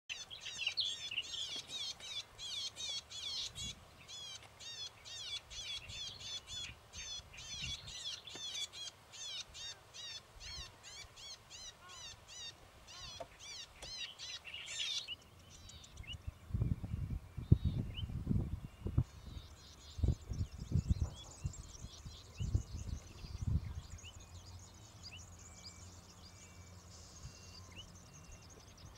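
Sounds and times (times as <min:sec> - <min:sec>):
bird chirping: 0:00.1 - 0:28.9.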